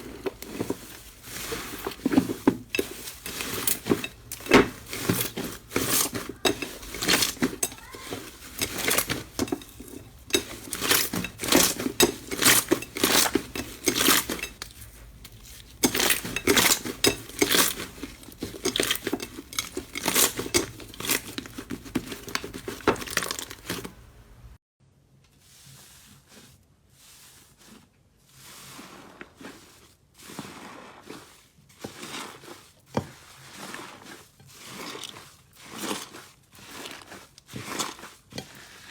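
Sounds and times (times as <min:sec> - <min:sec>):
slime squishing: 0:00.0 - 0:24.1, 0:28.7 - 0:38.9.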